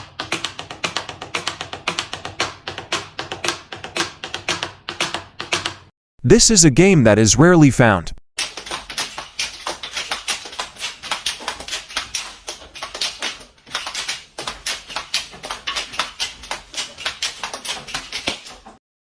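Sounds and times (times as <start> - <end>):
rapid sharp taps: 0.0 - 5.9, 8.4 - 18.8.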